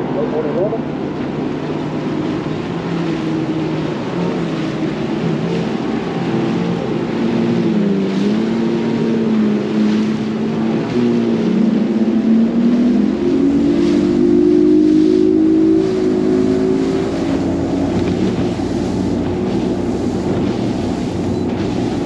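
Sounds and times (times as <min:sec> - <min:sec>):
outboard motor running: 0:00.0 - 0:22.0
wind and water rushing: 0:00.0 - 0:22.0.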